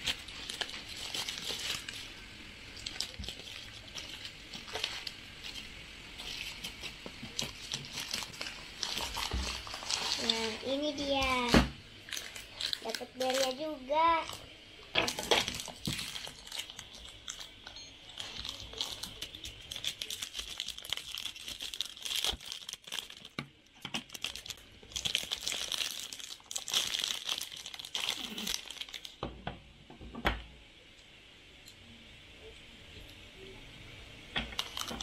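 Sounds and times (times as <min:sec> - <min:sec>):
packaging crinkling and tearing: 0:00.0 - 0:11.4, 0:12.1 - 0:13.6, 0:14.2 - 0:29.2, 0:34.5 - 0:35.0.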